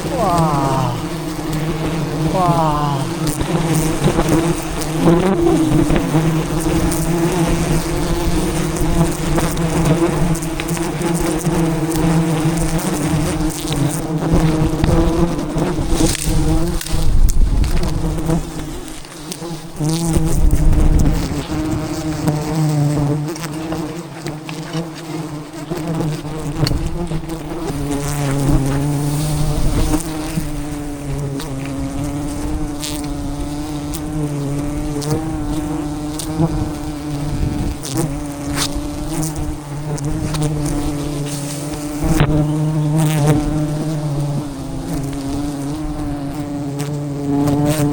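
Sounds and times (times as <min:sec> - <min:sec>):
bees buzzing: 0:00.0 - 0:17.1, 0:17.9 - 0:47.9.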